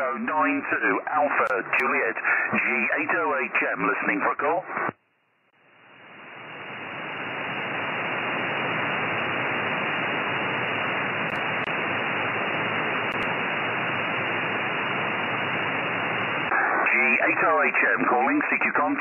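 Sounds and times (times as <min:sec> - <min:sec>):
radio receiver hiss: 0:00.4 - 0:05.0, 0:05.6 - 0:19.0.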